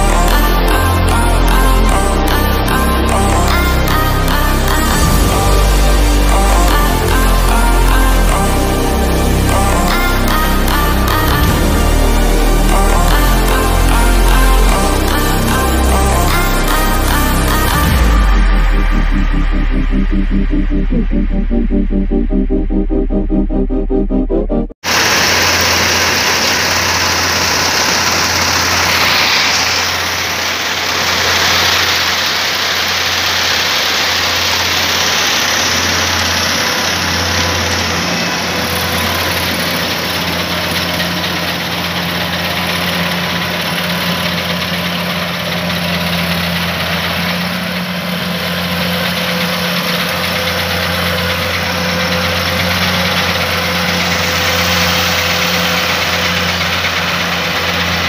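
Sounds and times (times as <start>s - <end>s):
combine harvester engine hum: 0.0s - 58.0s
mechanical rush: 0.0s - 58.0s.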